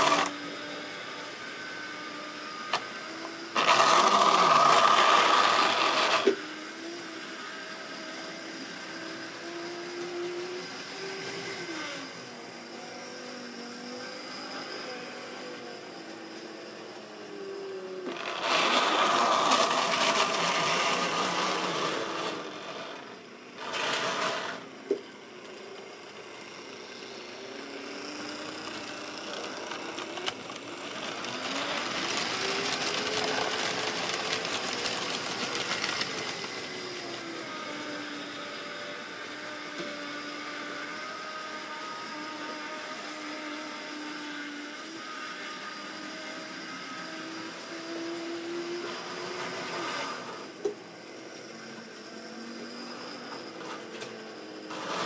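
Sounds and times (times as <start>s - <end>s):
model train motor whirring: 0.0s - 55.0s.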